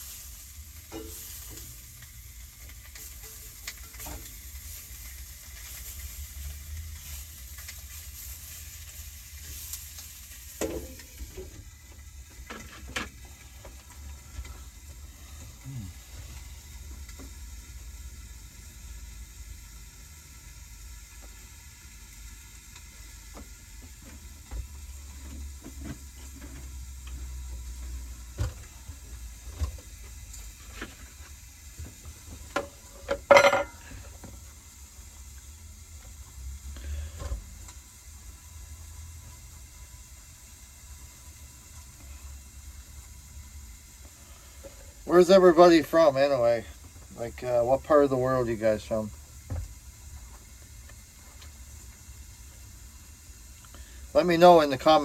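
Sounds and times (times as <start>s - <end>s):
sausages sizzling in frying pan: 0.0s - 55.0s.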